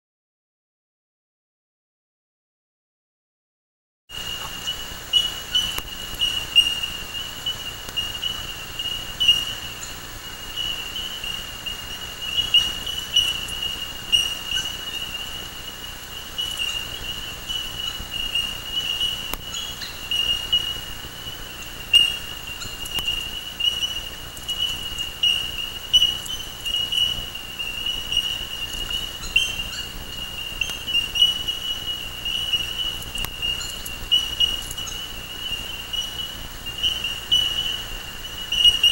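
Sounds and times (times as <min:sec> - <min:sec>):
faint chirps: 0:04.1 - 0:38.9.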